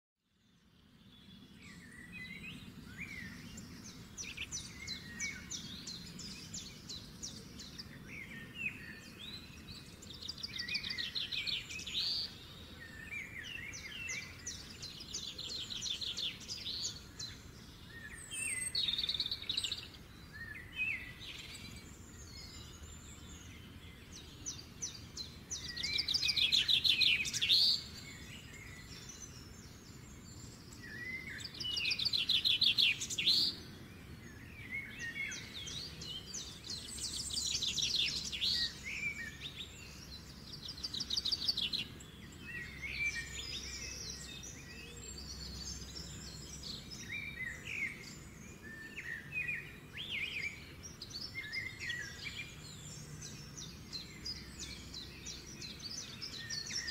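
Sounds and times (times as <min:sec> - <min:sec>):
songbirds chirping and trilling: 0:00.2 - 0:56.9.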